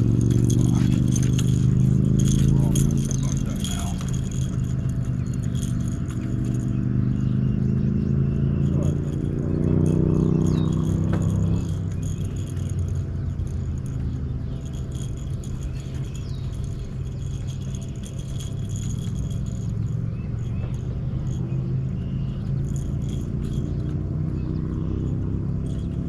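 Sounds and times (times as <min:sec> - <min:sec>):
boat motor humming: 0:00.0 - 0:26.0
light rattling: 0:00.0 - 0:26.0.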